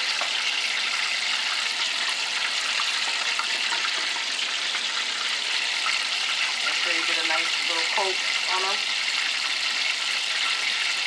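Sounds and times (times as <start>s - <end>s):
oil sizzling in a skillet: 0.0s - 11.0s.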